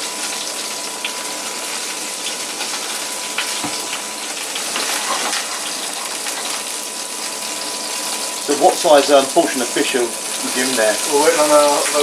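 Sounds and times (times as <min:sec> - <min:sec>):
fennel sizzling in oil: 0:00.0 - 0:12.0.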